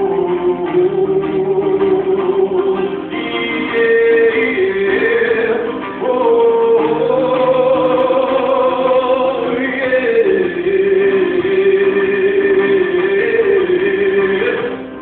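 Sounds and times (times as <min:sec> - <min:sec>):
live band music: 0:00.0 - 0:15.0
person singing: 0:00.0 - 0:15.0.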